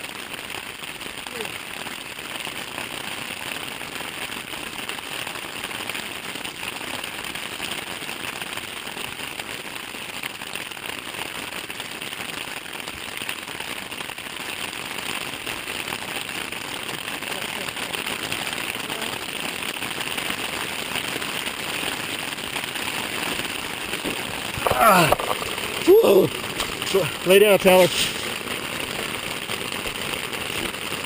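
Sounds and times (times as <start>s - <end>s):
rain on tent fabric: 0.0s - 31.0s.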